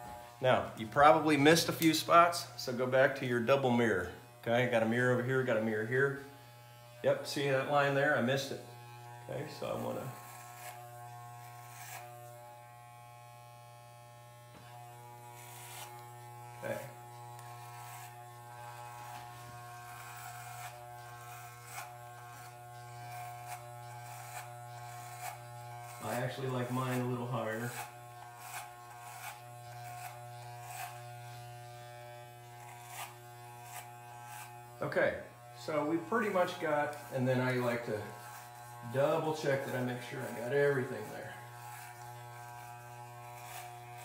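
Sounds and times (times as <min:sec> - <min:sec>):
electric hair clippers buzzing: 0:00.0 - 0:44.0
clipper blades rasping through hair: 0:01.2 - 0:02.5, 0:05.4 - 0:07.0, 0:08.5 - 0:44.0.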